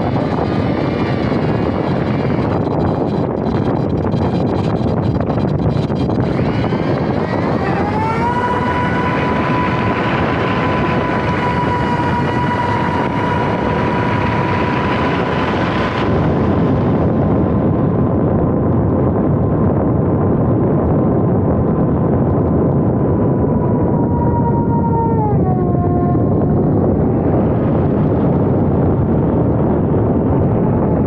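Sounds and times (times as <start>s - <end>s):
electric motor and propeller whining: 0.0s - 19.2s, 19.9s - 31.0s
wind rush on microphone: 0.0s - 31.0s.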